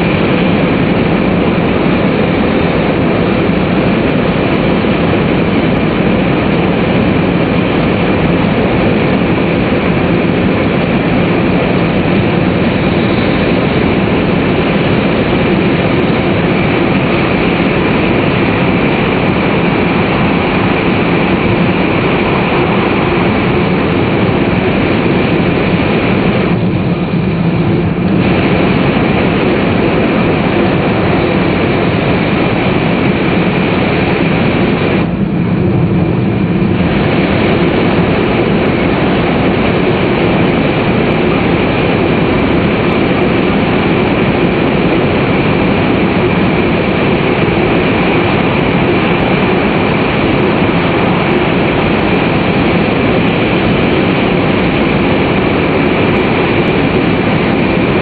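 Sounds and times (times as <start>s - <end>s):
train rumble inside passenger car: 0.0s - 58.0s.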